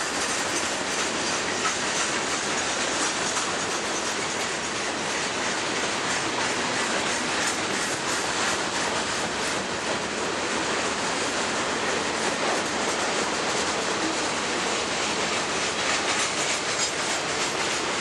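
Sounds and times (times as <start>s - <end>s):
freight train cars rolling past: 0.0s - 18.0s.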